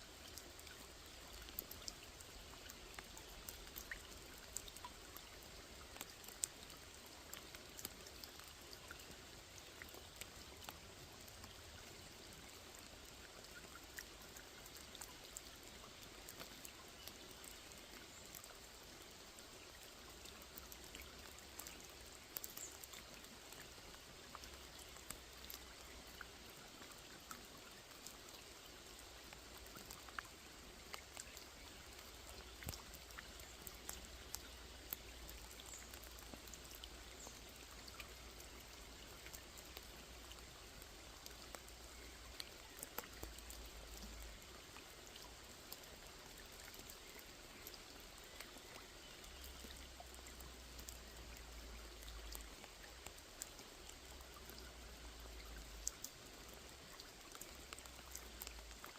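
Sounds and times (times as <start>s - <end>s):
rain falling on lake: 0.0s - 58.9s.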